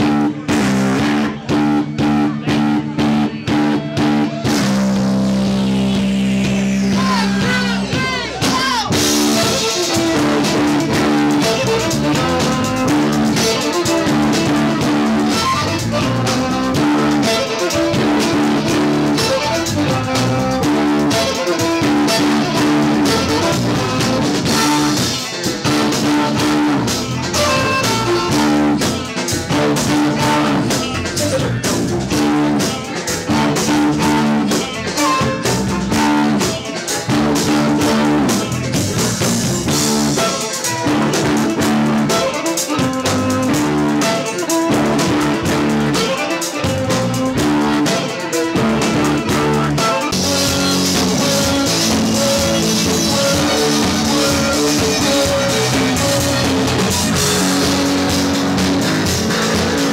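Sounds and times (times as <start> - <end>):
drum kit: 0.0 - 59.9
electric guitar: 0.0 - 59.9
bowed electric violin: 1.0 - 38.8, 39.7 - 59.9.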